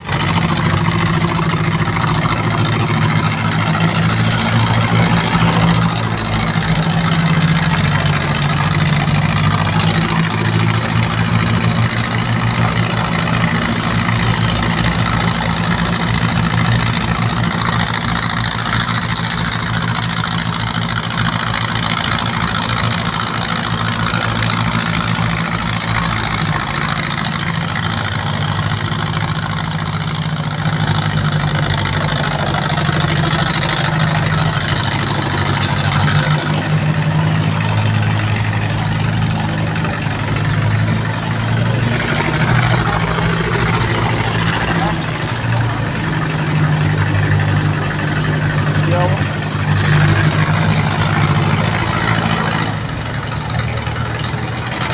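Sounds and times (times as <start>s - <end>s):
ship engine humming: 0.0s - 54.9s.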